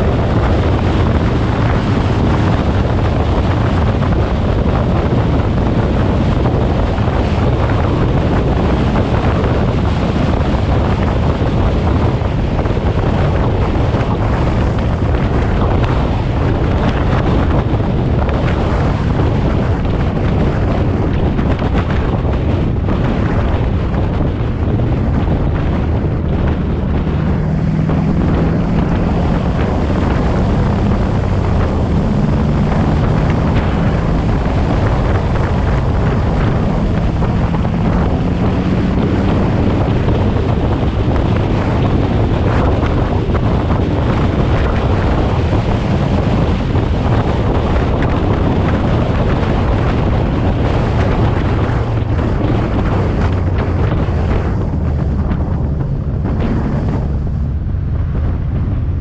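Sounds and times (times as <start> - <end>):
car engine drone: 0.0 - 59.0
wind buffeting microphone: 0.0 - 59.0.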